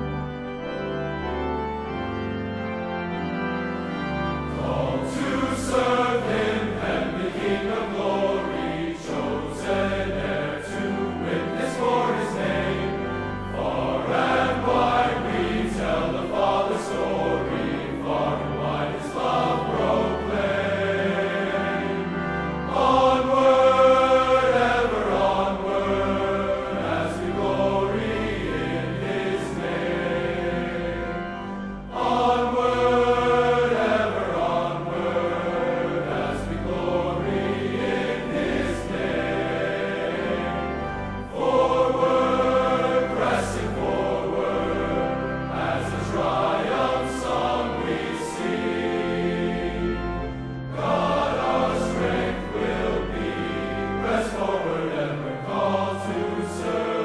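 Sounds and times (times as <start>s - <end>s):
male choir singing in harmony: 0.0s - 57.0s.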